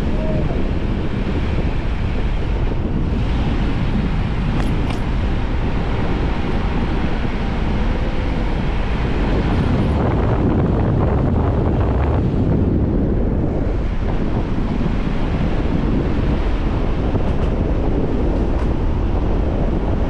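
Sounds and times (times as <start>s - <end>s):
car and road noise: 0.0s - 20.0s
wind rushing over microphone: 0.0s - 20.0s.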